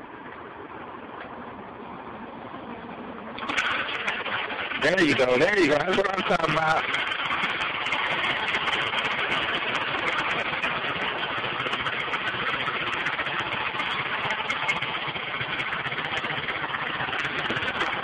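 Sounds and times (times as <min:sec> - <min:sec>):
small gas engine running: 0:00.0 - 0:18.0.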